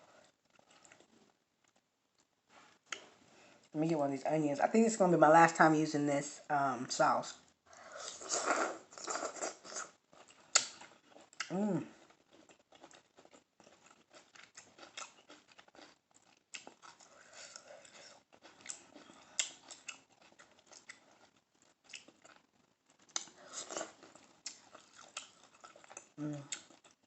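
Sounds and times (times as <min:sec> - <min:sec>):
person chewing food: 0:00.0 - 0:03.8, 0:07.7 - 0:27.0.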